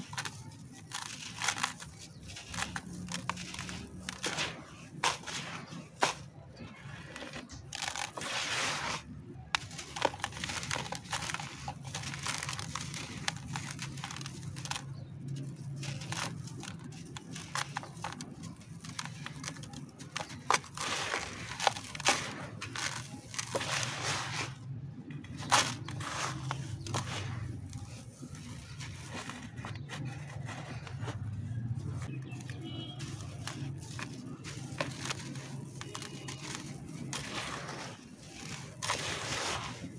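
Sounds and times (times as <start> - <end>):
concrete crunching by hand: 0.0 - 39.9
grit trickling: 0.0 - 39.9.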